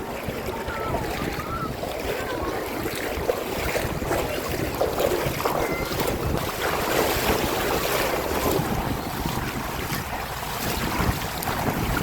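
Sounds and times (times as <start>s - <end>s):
seawater sloshing: 0.0s - 12.0s
wind on microphone: 0.0s - 12.0s.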